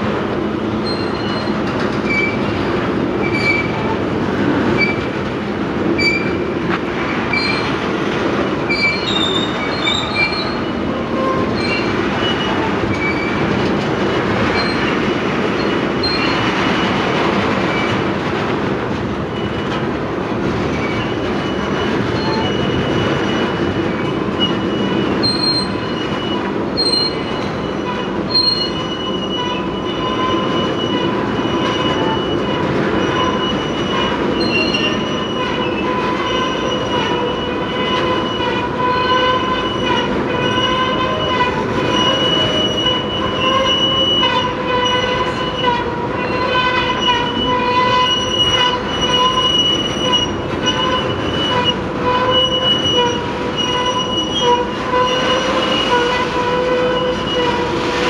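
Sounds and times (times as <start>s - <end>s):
train wheels rumbling on rails: 0.0s - 58.0s
high-pitched wheel squeal: 0.8s - 2.6s, 3.2s - 4.0s, 8.5s - 13.4s, 14.4s - 16.9s, 20.7s - 58.0s.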